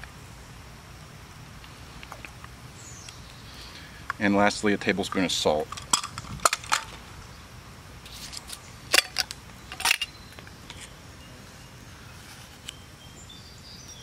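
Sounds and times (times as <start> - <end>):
low outdoor background noise: 0.0 - 14.0.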